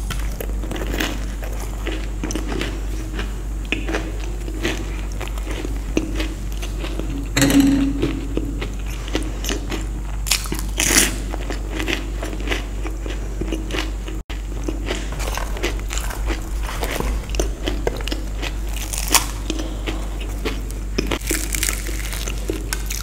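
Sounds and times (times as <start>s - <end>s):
person crunching and chewing food: 0.0s - 7.1s, 10.2s - 23.0s.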